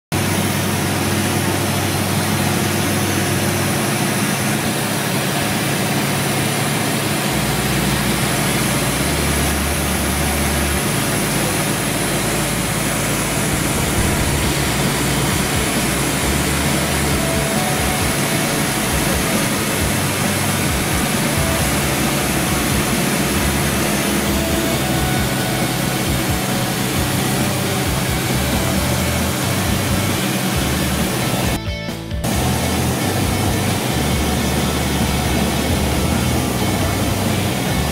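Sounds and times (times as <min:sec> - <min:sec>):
airplane engine drone in cabin: 0:00.2 - 0:31.6, 0:32.2 - 0:37.9.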